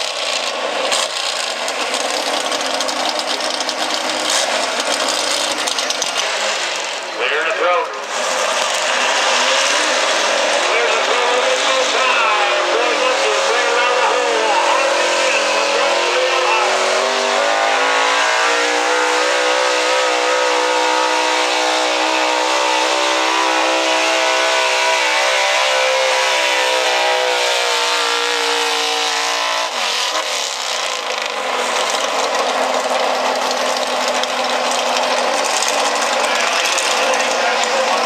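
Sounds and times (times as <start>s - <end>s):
truck engine at high revs: 0.0s - 38.0s.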